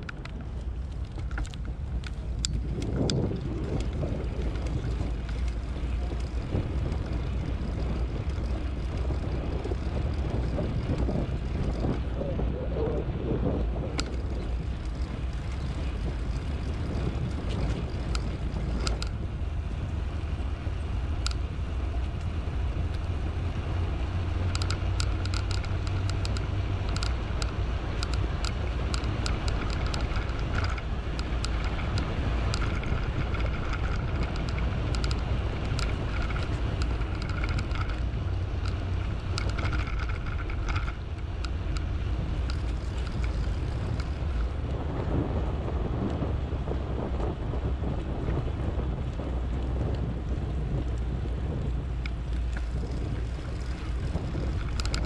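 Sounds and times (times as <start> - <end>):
bike ticking and rattling: 0.0 - 55.0
wind rushing over microphone: 0.0 - 55.0.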